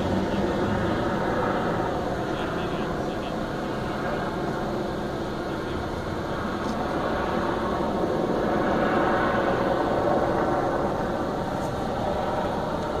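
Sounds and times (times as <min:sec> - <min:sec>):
fire engine pumps running: 0:00.0 - 0:13.0.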